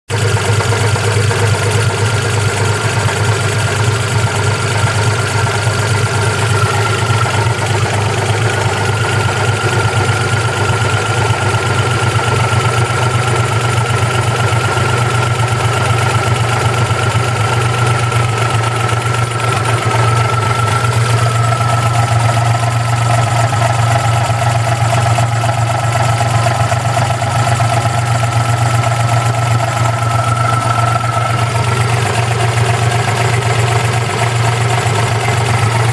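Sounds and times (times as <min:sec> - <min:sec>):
car engine idling: 0:00.1 - 0:35.9.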